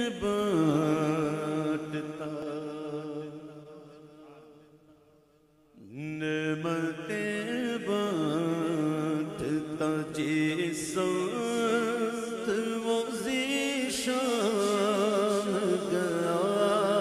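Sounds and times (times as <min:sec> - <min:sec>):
man singing devotional song: 0:00.0 - 0:05.1, 0:05.7 - 0:17.0.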